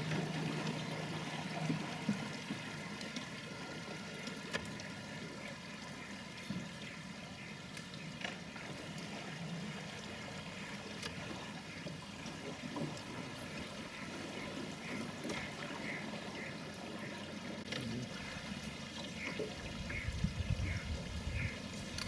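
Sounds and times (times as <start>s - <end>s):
river water trickling: 0.0s - 22.0s.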